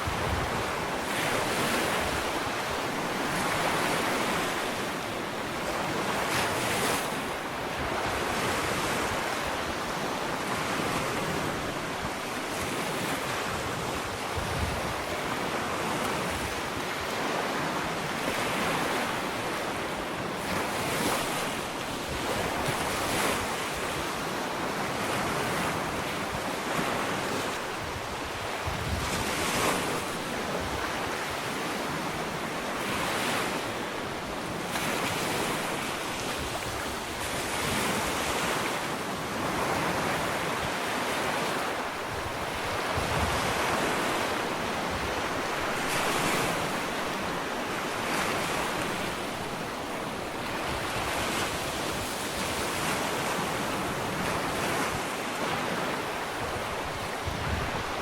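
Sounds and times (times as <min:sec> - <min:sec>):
wind on microphone: 0:00.0 - 0:33.6, 0:34.3 - 0:58.0
waves breaking on beach: 0:00.0 - 0:58.0.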